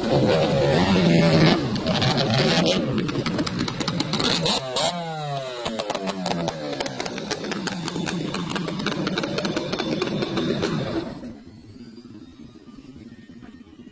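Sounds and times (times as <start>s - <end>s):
small petrol engine running: 0.0s - 13.9s.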